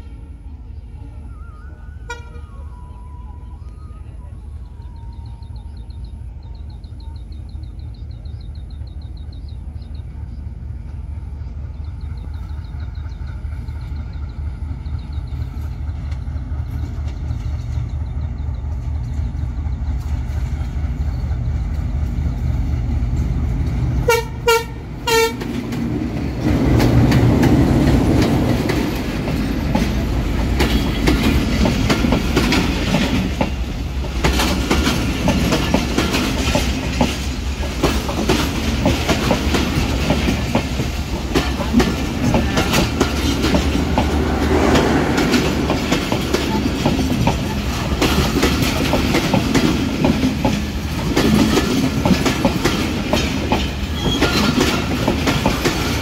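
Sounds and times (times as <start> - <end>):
coaches rolling on rails: 0.0 - 56.0
locomotive engine rumble: 0.0 - 56.0.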